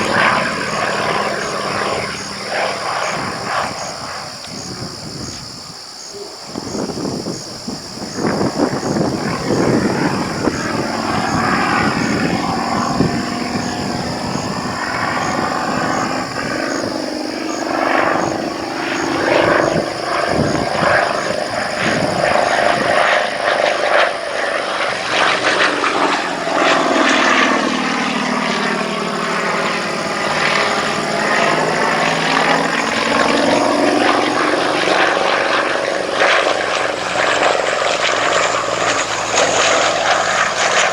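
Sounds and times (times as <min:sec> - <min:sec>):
propeller plane engine at high power: 0:00.0 - 0:40.9.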